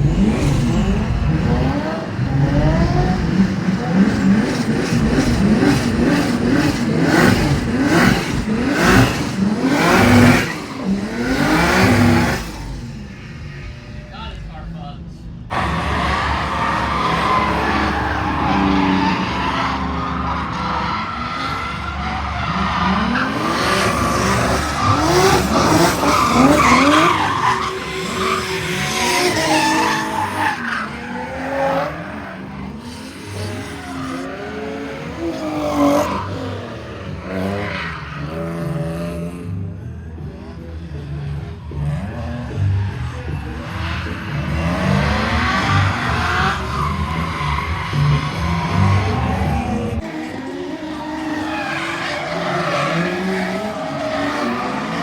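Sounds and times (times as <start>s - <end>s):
tires skidding and squealing: 0.0s - 14.7s, 15.4s - 55.0s
car engine revving: 0.0s - 55.0s.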